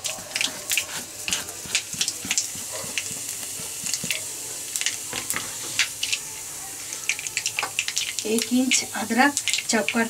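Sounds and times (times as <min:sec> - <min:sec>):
seeds sizzling and popping in oil: 0:00.0 - 0:10.0.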